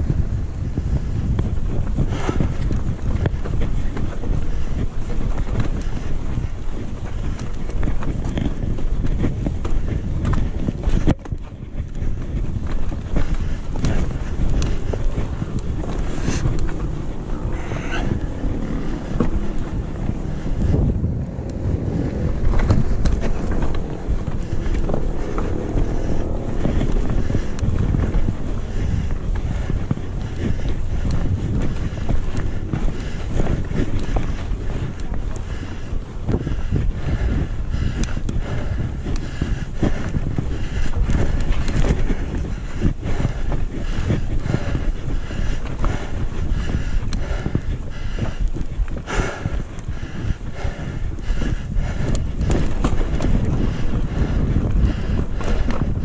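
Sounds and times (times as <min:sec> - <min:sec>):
bike clicking and rattling: 0:00.0 - 0:56.0
wind rumbling on microphone: 0:00.0 - 0:56.0.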